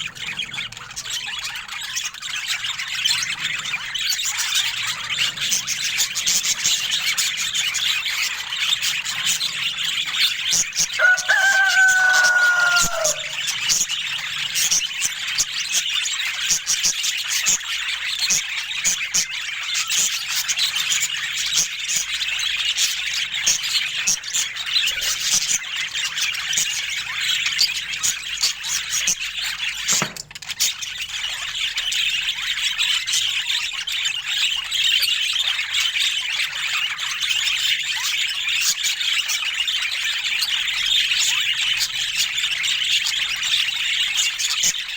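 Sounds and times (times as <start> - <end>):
budgerigars chattering and chirping: 0.0 - 44.9.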